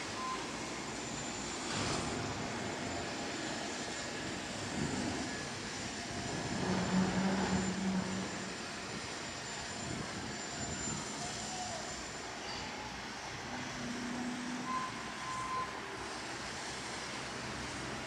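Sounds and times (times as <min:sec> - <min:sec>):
rumbling city noise: 0:00.0 - 0:18.0.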